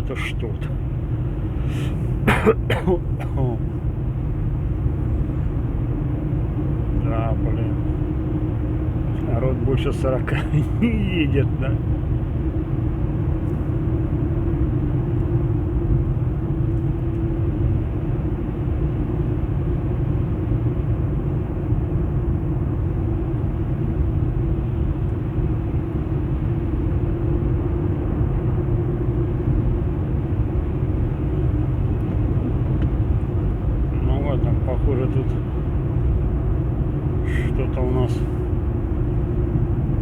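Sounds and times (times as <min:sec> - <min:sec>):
engine and tyres rumbling: 0:00.0 - 0:40.0.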